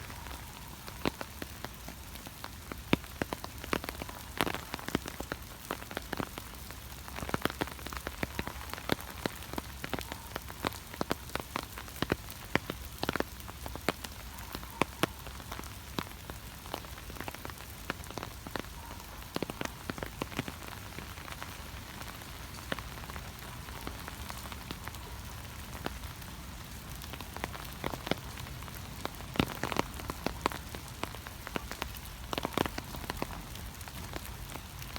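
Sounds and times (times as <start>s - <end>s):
heavy rain drops tapping: 0.0s - 34.9s.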